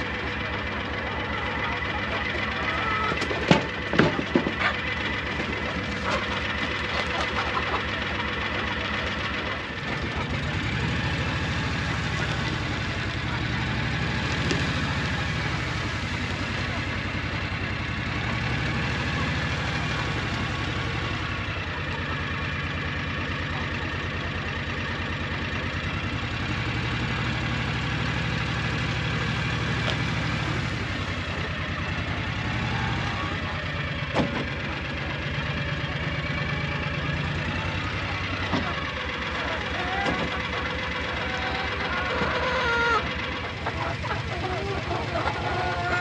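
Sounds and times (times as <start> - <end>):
engine idling: 0.0 - 46.0.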